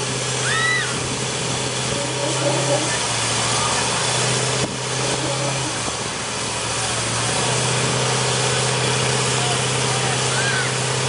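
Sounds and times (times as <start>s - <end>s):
truck engines straining: 0.0s - 11.0s.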